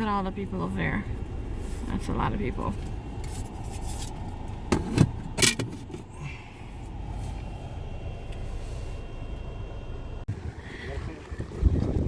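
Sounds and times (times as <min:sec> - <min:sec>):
car rumbling: 0:00.0 - 0:12.0.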